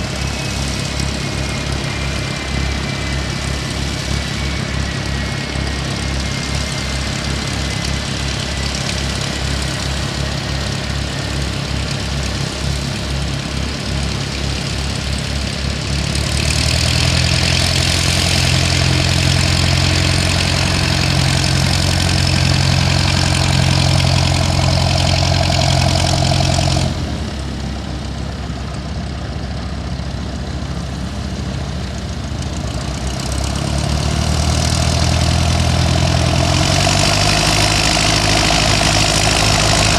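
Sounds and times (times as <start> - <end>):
engine pulsing low hum: 0.0 - 39.9.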